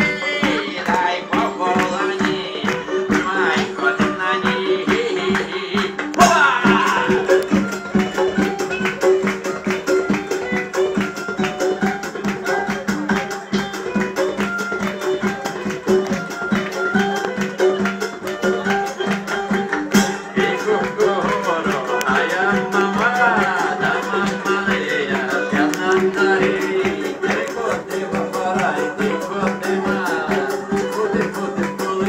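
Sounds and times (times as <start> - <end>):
frame drum and rattling percussion: 0.0 - 32.0.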